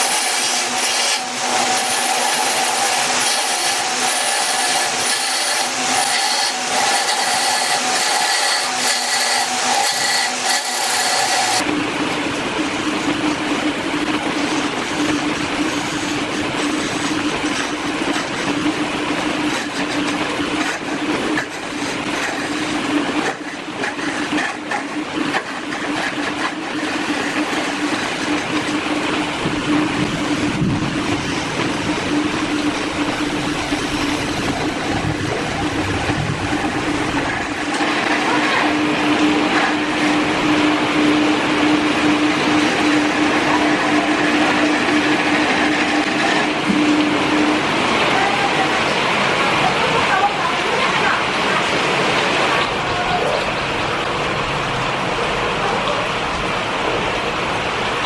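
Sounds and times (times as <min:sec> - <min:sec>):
lathe motor hum: 0:00.0 - 0:49.7.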